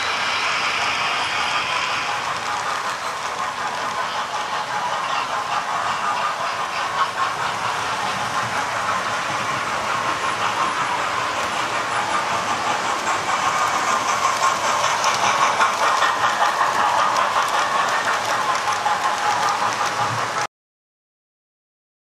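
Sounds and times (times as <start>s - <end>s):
small wheels clicking over rail joints: 0.0s - 20.5s.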